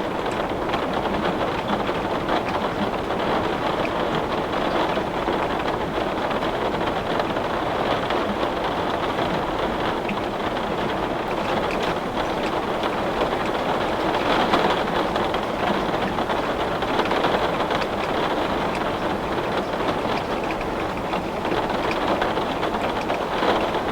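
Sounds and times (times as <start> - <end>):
heavy rain on window glass: 0.0 - 23.9.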